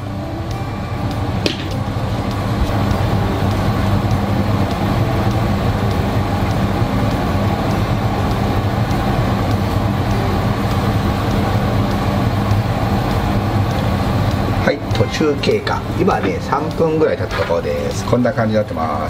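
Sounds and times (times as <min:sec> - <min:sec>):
pan simmering hum and rush: 0:00.0 - 0:19.0.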